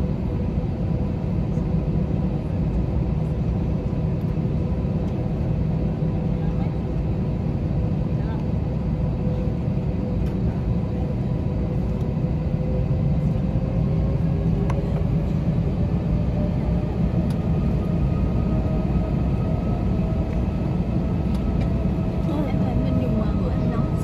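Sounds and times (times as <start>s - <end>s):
airliner cabin rumble: 0.0s - 24.0s
faint jet engine whine: 0.0s - 24.0s.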